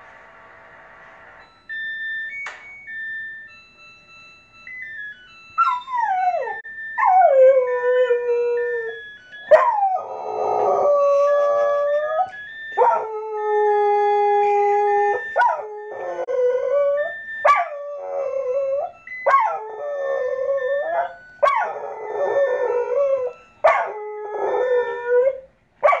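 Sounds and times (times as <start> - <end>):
washing machine chime tune: 1.4 - 26.0.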